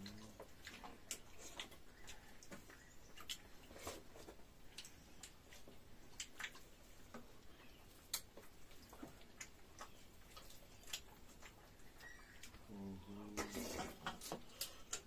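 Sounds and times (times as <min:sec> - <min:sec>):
chewing smacks: 0:00.0 - 0:12.7.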